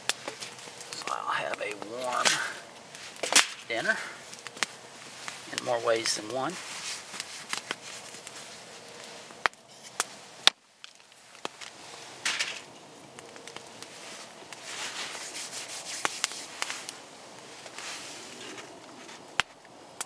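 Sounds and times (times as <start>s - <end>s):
campfire crackling and popping: 0.0s - 20.0s
rustling and scraping: 0.1s - 10.2s, 10.9s - 12.7s, 13.4s - 19.4s.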